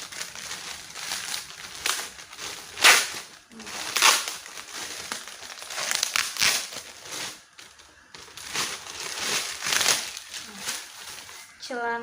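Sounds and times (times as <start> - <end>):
package wrapping crinkling: 0.0 - 11.6.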